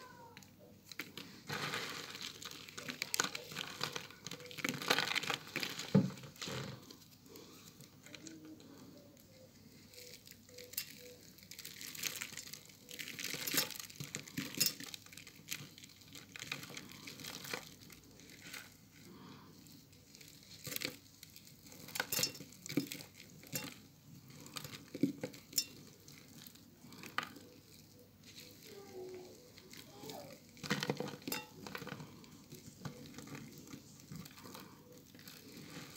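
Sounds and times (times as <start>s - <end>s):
soap crumbling with crunchy crackles: 0.0s - 35.9s.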